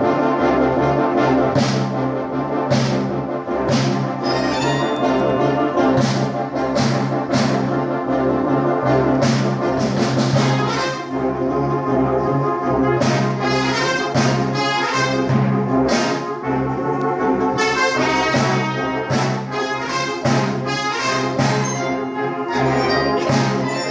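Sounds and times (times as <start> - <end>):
brass band playing: 0.0 - 23.9.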